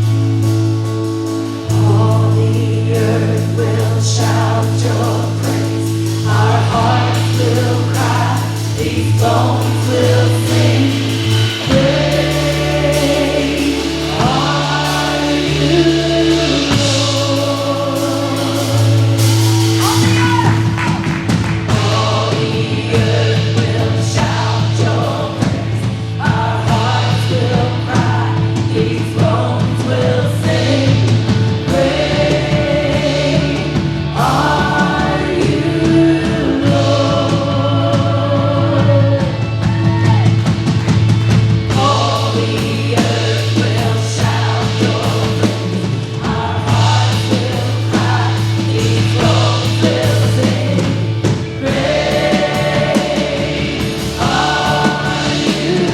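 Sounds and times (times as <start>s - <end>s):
full band playing: 0.0s - 55.9s
voices singing: 1.6s - 55.9s.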